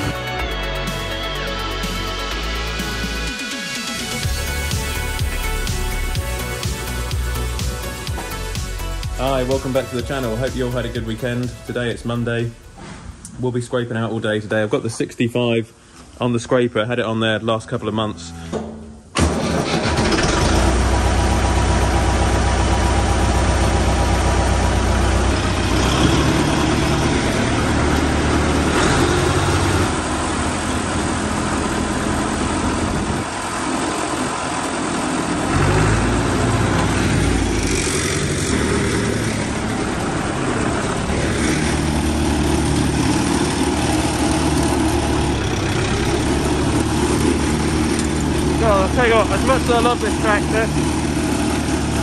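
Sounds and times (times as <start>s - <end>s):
tractor diesel engine running: 0.0s - 13.8s, 16.9s - 52.0s.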